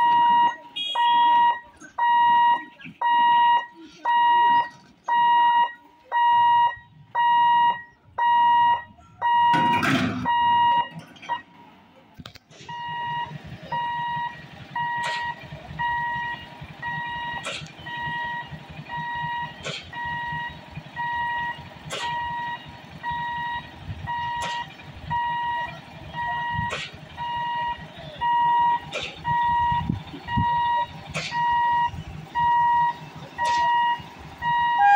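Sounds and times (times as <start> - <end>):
level crossing warning beeping: 0.0 - 11.8, 12.6 - 34.9.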